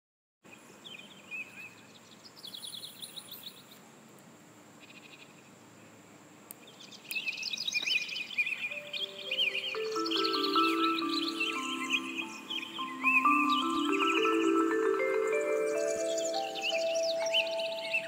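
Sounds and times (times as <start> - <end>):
birds chirping and twittering: 0.5 - 3.9, 4.8 - 18.0.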